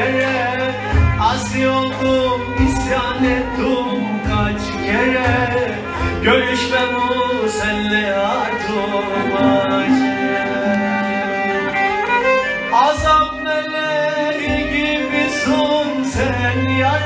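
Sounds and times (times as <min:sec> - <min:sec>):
man singing into microphone: 0:00.0 - 0:11.9, 0:12.7 - 0:17.0
string backing with violin: 0:00.0 - 0:17.0.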